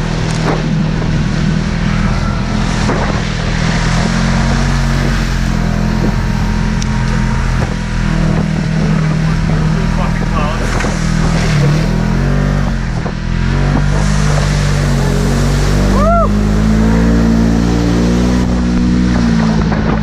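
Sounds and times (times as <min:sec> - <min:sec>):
off-road vehicle engine running: 0:00.0 - 0:20.0
tyre and trail noise: 0:00.0 - 0:20.0.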